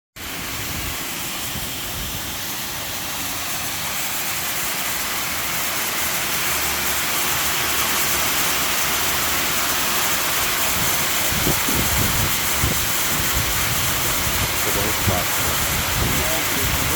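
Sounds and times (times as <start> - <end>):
water jets spraying: 0.2 - 16.9.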